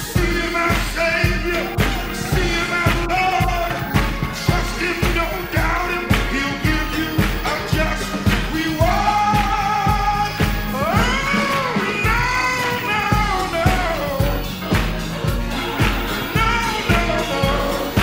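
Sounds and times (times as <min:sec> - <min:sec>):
gospel choir singing: 0:00.0 - 0:18.0
kick drum and bass beat: 0:00.0 - 0:18.0.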